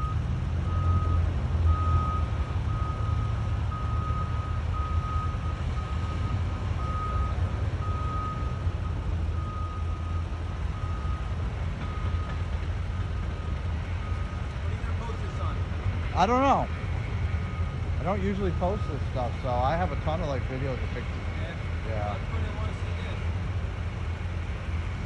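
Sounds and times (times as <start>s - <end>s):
low rumble of machinery: 0.0s - 25.0s.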